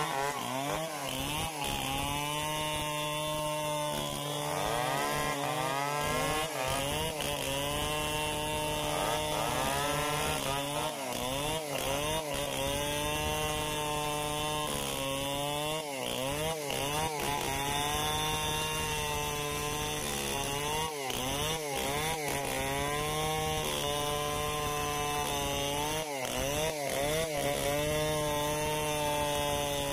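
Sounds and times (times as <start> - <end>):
chainsaw running at high revs: 0.0 - 29.9.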